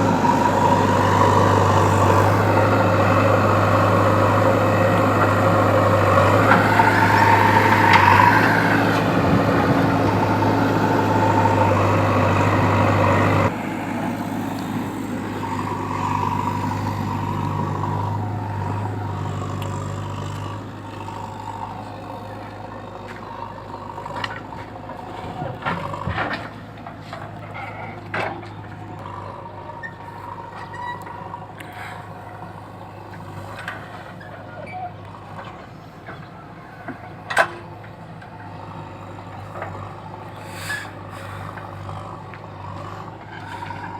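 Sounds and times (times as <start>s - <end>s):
diesel engine running with whine: 0.0s - 43.9s.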